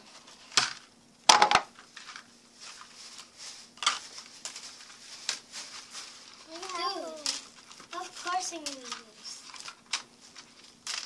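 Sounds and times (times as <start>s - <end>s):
handling rustle: 1.8s - 11.0s.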